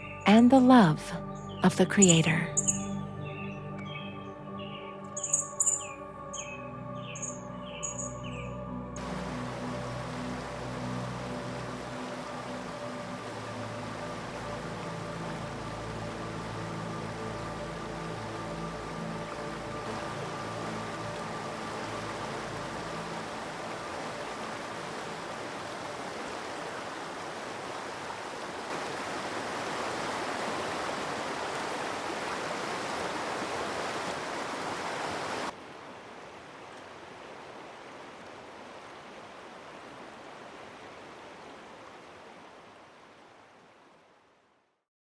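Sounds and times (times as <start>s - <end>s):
stream water flowing: 0.0s - 44.6s.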